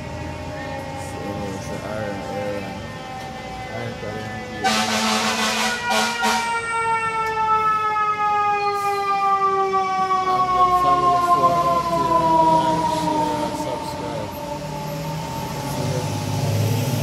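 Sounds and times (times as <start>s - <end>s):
fire truck siren wailing: 0.0s - 17.0s.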